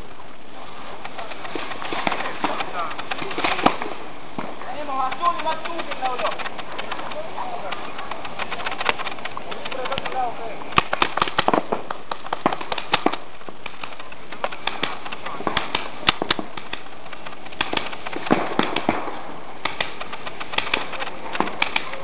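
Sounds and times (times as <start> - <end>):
paintball markers popping: 1.1 - 19.0.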